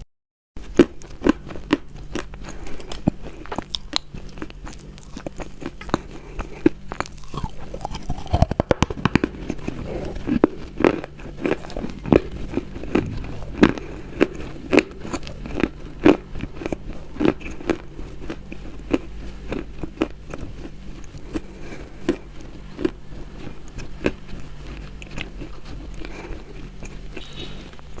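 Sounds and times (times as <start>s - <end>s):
chewing crunchy food: 0.6s - 28.0s.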